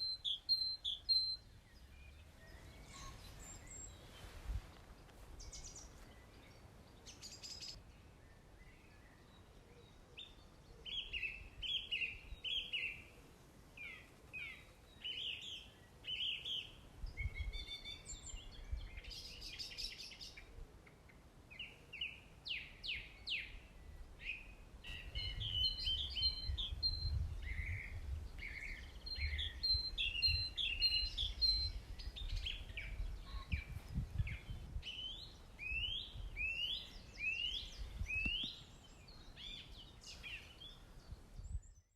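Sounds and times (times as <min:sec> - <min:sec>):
songbirds singing and trilling: 0:00.0 - 0:41.9.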